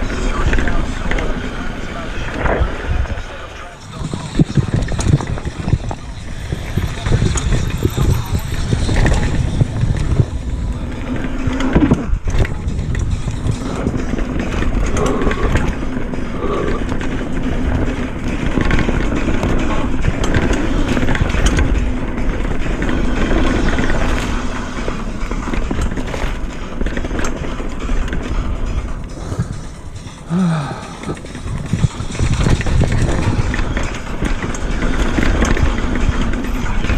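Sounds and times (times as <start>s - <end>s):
bike chain and frame rattling: 0.0s - 36.9s
bike tyres rumbling over dirt: 0.0s - 36.9s
wind on microphone: 1.9s - 26.4s, 30.7s - 36.9s.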